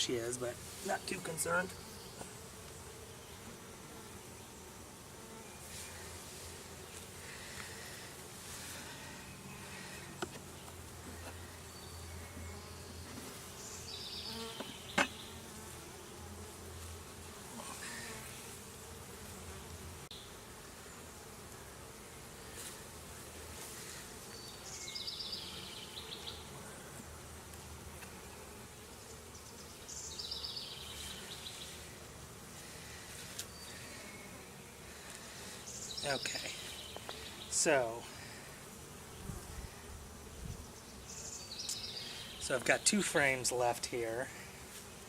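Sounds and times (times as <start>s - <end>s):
honey bees buzzing: 0.0s - 45.0s.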